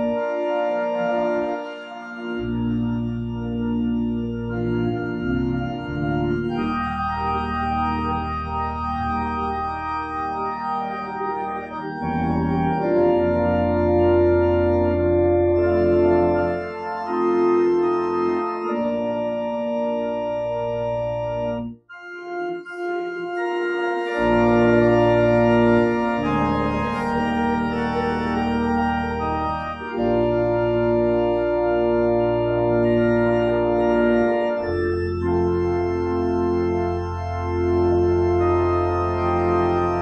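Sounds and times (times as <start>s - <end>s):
church organ chords: 0.0s - 40.0s.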